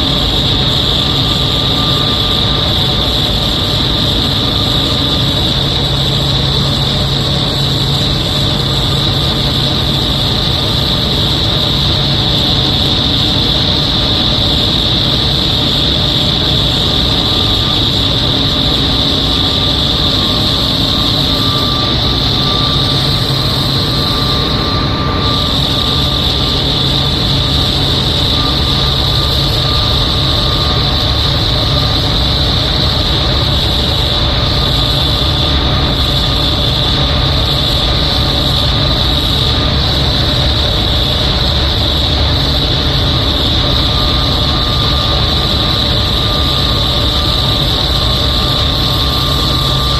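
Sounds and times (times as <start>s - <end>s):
low hum: 0.0s - 49.9s
machinery high-pitched hiss: 0.0s - 49.9s.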